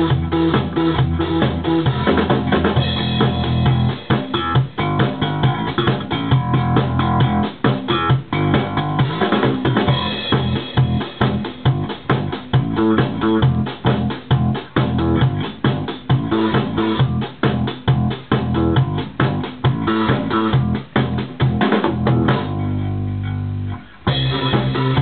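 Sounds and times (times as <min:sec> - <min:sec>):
bass notes: 0:00.0 - 0:25.0
drum kit beat: 0:00.0 - 0:25.0
guitar: 0:00.0 - 0:25.0.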